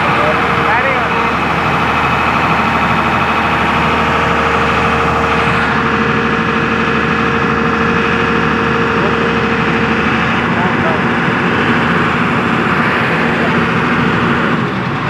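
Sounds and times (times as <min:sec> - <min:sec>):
excavator diesel engine running: 0:00.0 - 0:15.0
steady tone: 0:00.0 - 0:15.0.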